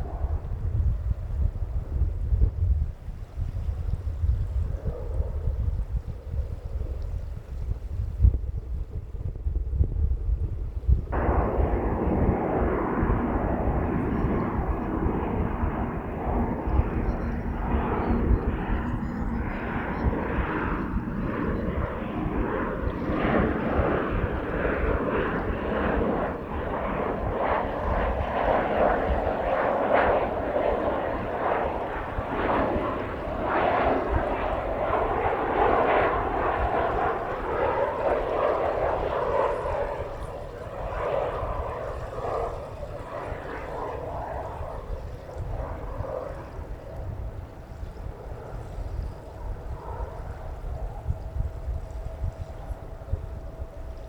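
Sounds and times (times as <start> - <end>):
jet aircraft engine roar: 0.0 - 8.0, 9.6 - 54.0.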